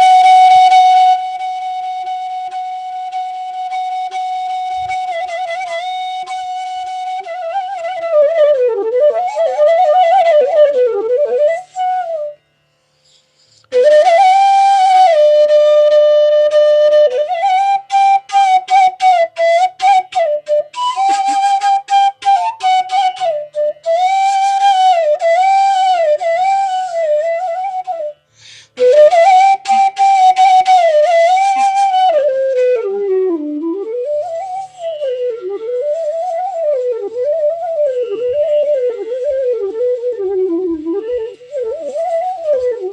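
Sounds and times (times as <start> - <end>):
bamboo flute melody: 0.0 - 42.9.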